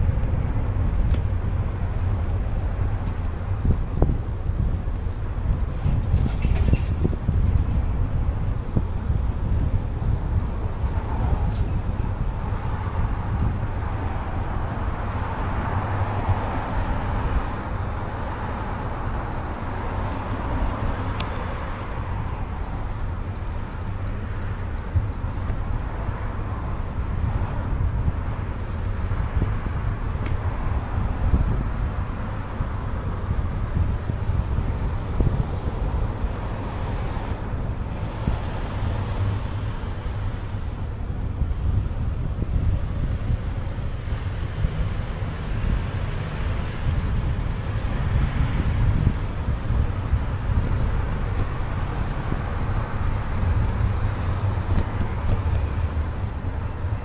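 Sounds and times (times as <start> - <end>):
road traffic: 0.0 - 57.0
wind rumble on microphone: 0.0 - 57.0.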